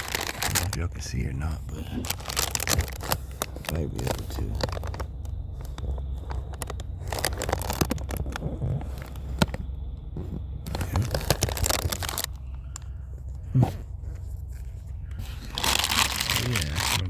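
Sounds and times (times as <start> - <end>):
crinkling handling noises: 0.0 - 17.0
low hum: 0.0 - 17.0.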